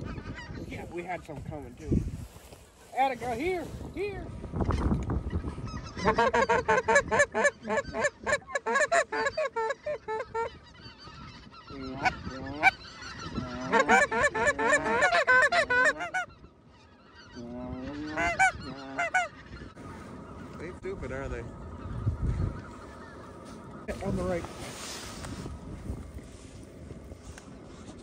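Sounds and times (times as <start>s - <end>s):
geese honking: 0.0s - 1.2s, 4.5s - 28.0s.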